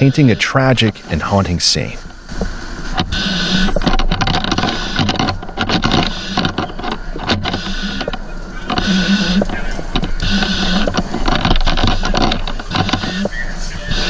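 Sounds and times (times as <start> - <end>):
house fire crackling and rushing: 0.0 - 14.0
steady mechanical hum: 0.0 - 14.0.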